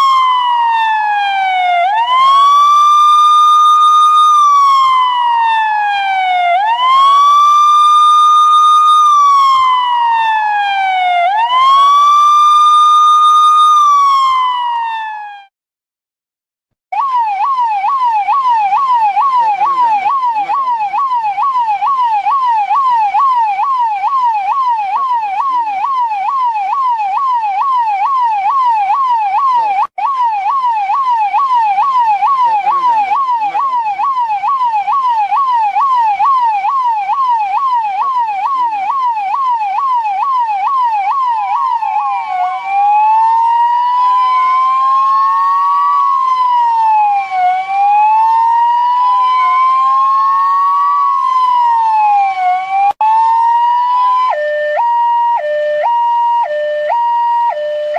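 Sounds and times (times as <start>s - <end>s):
police siren yelp and wail: 0.0s - 15.5s, 16.9s - 57.9s.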